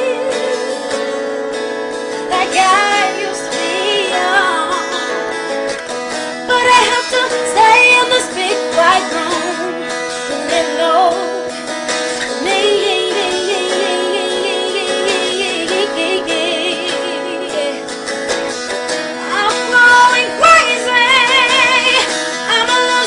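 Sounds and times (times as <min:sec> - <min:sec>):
woman singing: 0:00.0 - 0:01.4, 0:02.1 - 0:05.5, 0:06.4 - 0:18.1, 0:19.2 - 0:23.0
acoustic guitar: 0:00.0 - 0:23.0.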